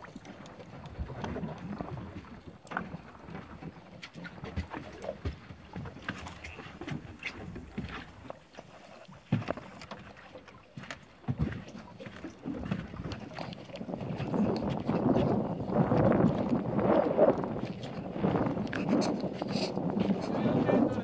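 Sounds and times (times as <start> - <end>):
water splashing: 0.0 - 21.0
waves slapping against boat hull: 0.0 - 21.0.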